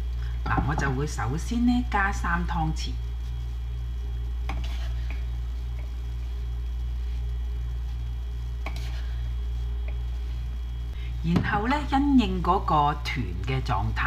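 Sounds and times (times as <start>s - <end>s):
low pulsing hum: 0.0s - 14.0s.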